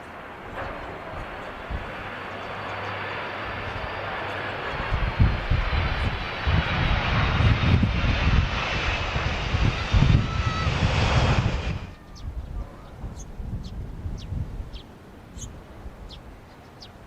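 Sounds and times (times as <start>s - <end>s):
jet engines roaring: 0.0s - 14.0s
wind rumbling on microphone: 0.4s - 2.3s, 3.5s - 17.0s.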